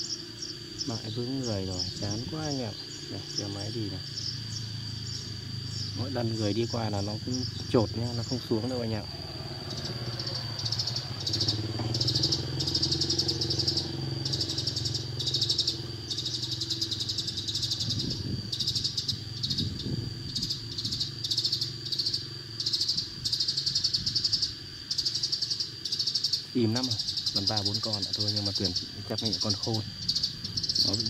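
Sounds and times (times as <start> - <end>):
sparrow chirps from loudspeaker: 0.0 - 31.0.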